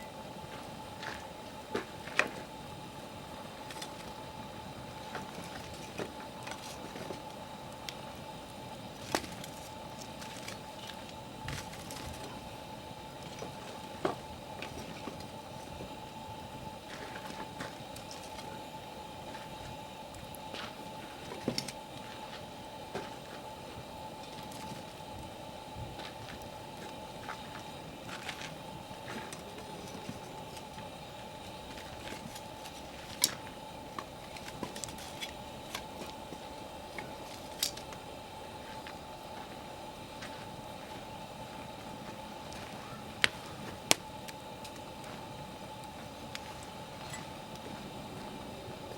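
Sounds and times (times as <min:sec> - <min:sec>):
campfire hissing: 0:00.0 - 0:48.9
fire crackling and popping: 0:00.1 - 0:48.9.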